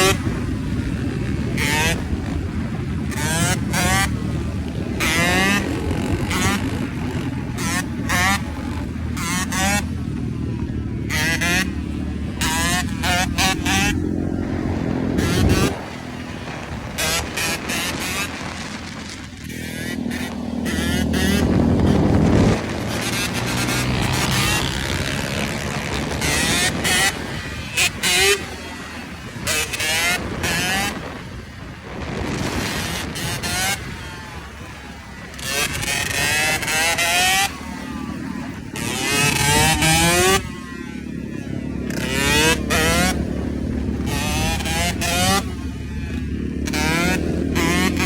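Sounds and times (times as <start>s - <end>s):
two-stroke engine revving: 0.0s - 48.0s.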